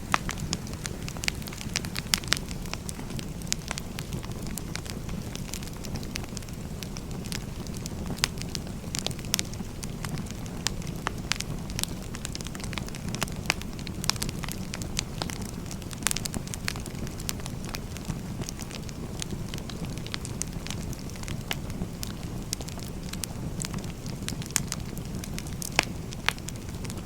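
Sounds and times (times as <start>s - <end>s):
firewood crackling and popping: 0.0s - 27.0s
low rush of flame: 0.0s - 27.0s.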